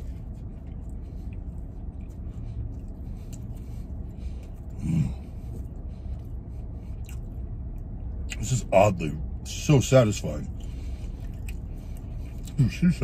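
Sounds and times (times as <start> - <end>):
man chewing: 0.0 - 8.4, 10.5 - 12.9
closed-mouth hum: 0.0 - 13.0
low cabin hum: 0.0 - 13.0.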